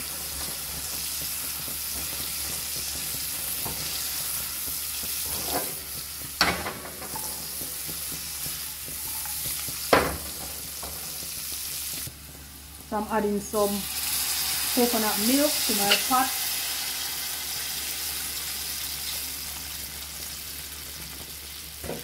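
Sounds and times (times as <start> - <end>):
vegetables sizzling in butter: 0.0 - 22.0.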